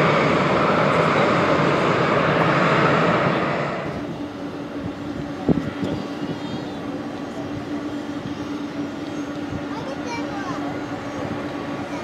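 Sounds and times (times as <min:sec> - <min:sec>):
jet engines running loud: 0:00.0 - 0:12.0.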